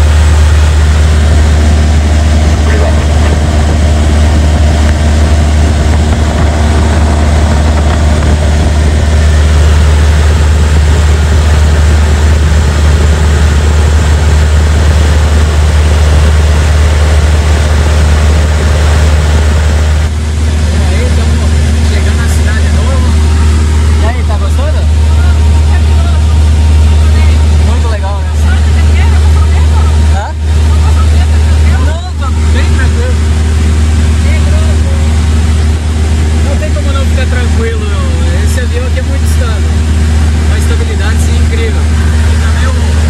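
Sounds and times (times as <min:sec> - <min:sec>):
airplane engine and propeller: 0:00.0 - 0:43.0.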